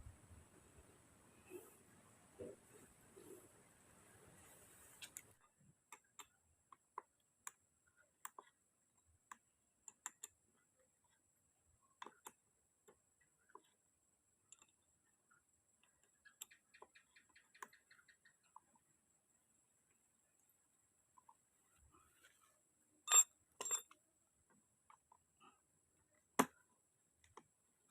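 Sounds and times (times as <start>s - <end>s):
faint irregular clicks and taps: 4.4s - 27.9s.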